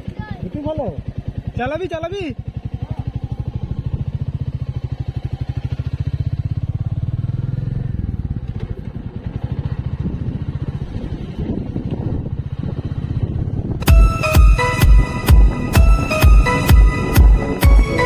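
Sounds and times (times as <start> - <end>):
motorcycle engine pulsing: 0.0 - 18.0.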